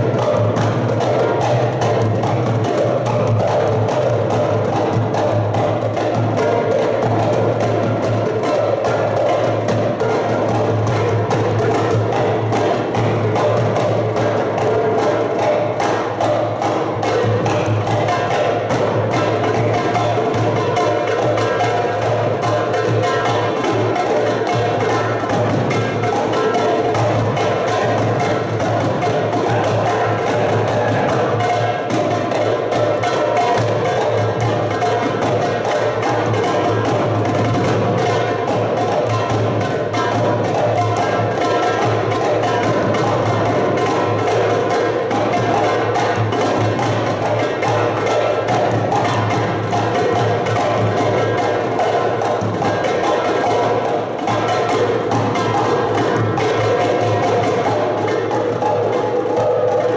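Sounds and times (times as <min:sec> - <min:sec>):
hand drum: 0:00.0 - 0:59.9.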